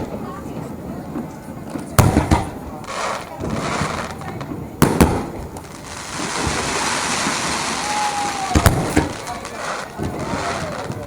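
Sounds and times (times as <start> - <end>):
fireworks hissing: 0.0 - 11.0
fireworks sharp bangs: 0.0 - 11.0.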